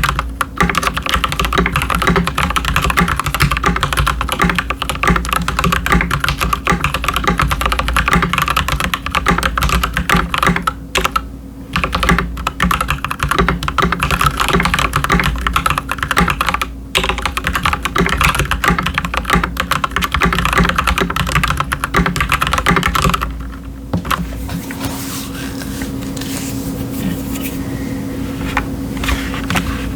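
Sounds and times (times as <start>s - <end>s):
mechanical keyboard typing: 0.0s - 24.2s.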